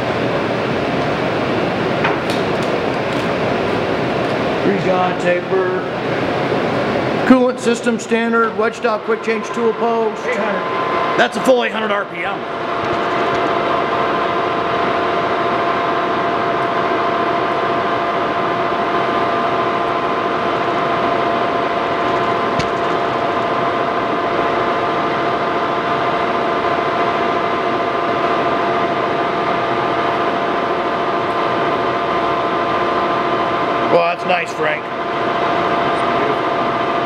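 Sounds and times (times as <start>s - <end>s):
lathe running with steady whine: 0.0s - 37.0s.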